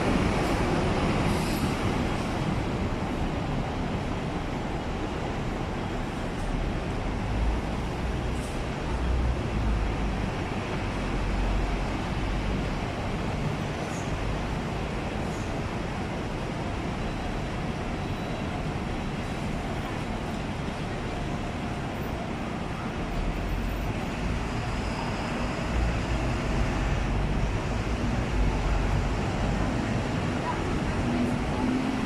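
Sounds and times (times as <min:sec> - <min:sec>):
street traffic rumble: 0:00.0 - 0:32.0.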